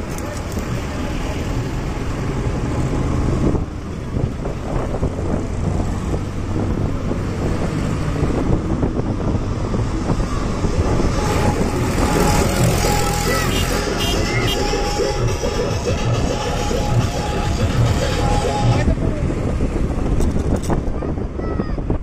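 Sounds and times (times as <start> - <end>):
motorcycle rumbling: 0.0 - 22.0
road traffic: 0.0 - 22.0
wind buffeting microphone: 1.5 - 22.0.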